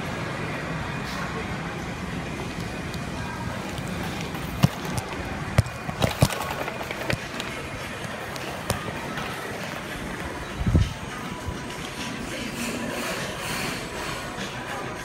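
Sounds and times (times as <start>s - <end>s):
crowd and city noise: 0.0s - 15.0s.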